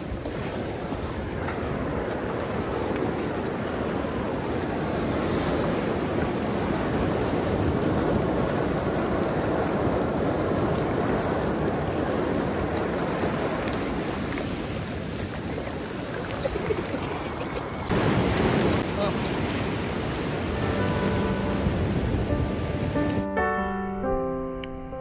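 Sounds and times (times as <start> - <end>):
ocean surf breaking on beach: 0.0 - 23.3.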